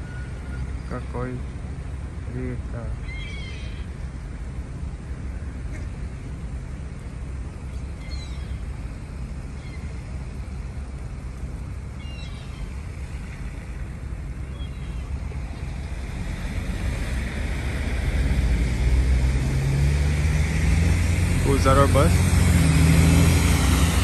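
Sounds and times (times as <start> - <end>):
road traffic: 0.0 - 24.0
wind: 0.0 - 24.0
vehicle approaching: 3.9 - 24.0.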